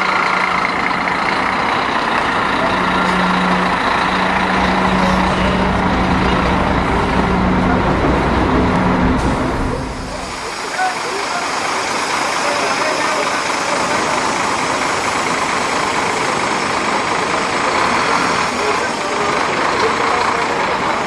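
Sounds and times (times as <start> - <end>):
diesel coach engine drone: 0.0 - 21.0.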